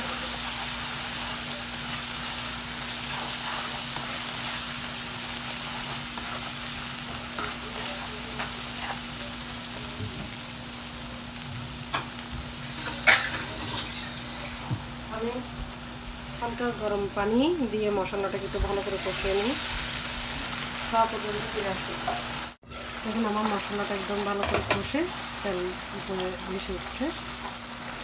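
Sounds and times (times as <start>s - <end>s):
spices sizzling in oil: 0.0s - 28.0s.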